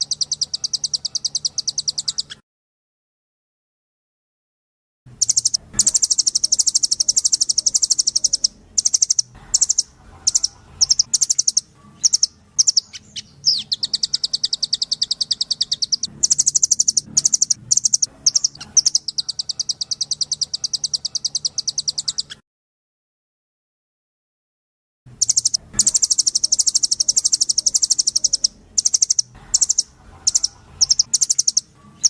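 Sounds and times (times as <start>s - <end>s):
bird trilling: 0.0s - 2.4s, 5.1s - 22.4s, 25.1s - 32.0s.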